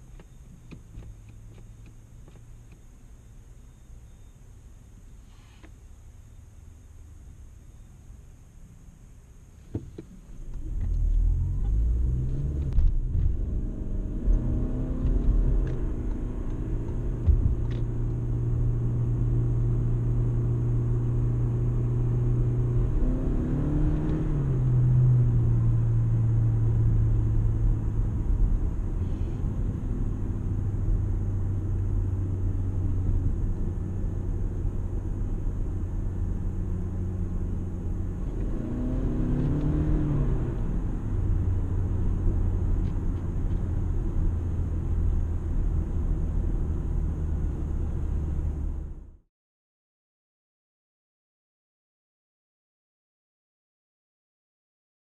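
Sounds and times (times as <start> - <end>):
car engine and road noise drone: 0.0 - 49.2.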